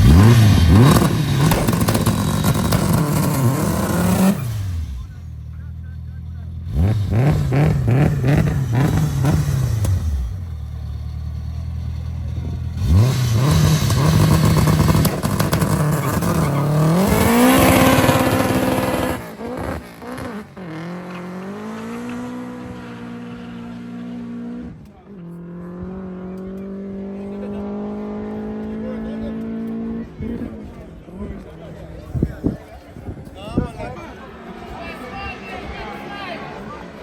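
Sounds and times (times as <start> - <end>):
car engine accelerating: 0.0 - 32.6.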